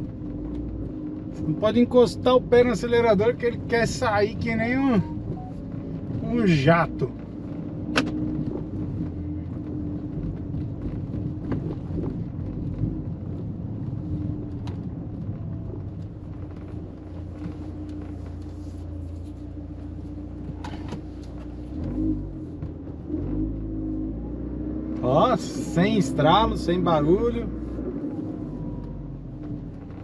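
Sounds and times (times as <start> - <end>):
car engine hum: 0.0 - 30.0
road rumble: 0.0 - 30.0.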